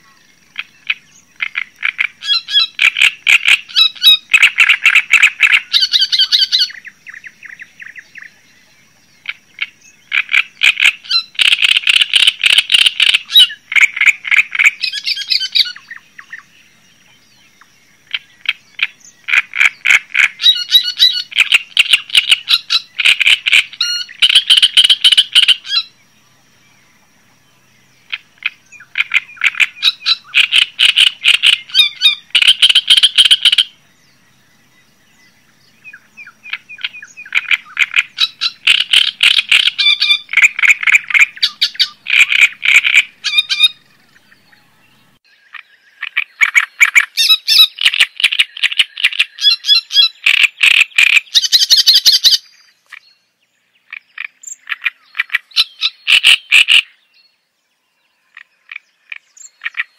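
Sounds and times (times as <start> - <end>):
songbird chattering song: 0.0 - 59.9.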